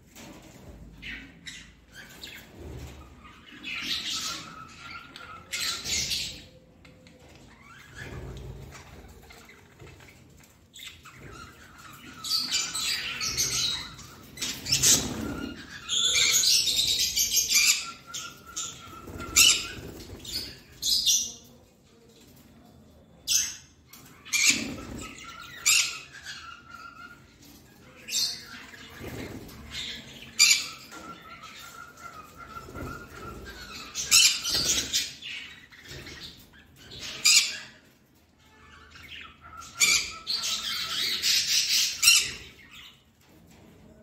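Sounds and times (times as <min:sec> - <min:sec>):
budgerigars chirping and chattering: 0:00.2 - 0:22.2, 0:23.1 - 0:44.0.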